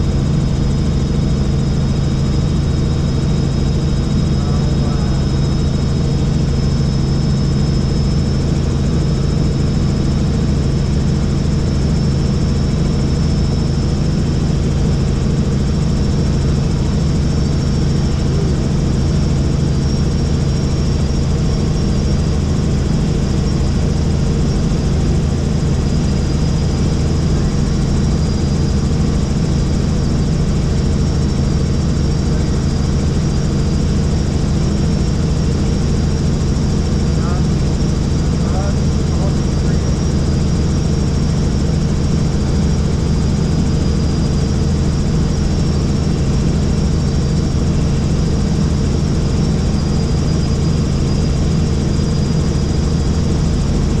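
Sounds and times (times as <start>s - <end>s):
helicopter rotor drone: 0.0s - 54.0s
thin high turbine whine: 0.0s - 54.0s.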